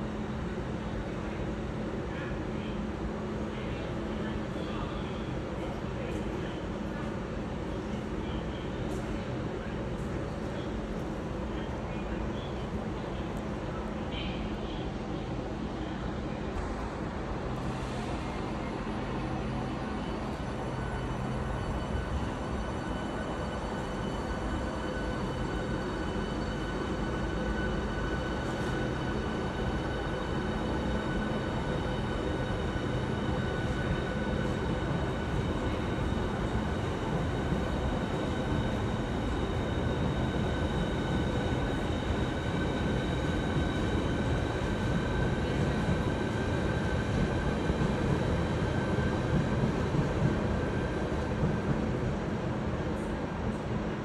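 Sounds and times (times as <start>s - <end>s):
trains humming low rumble: 0.0s - 54.0s.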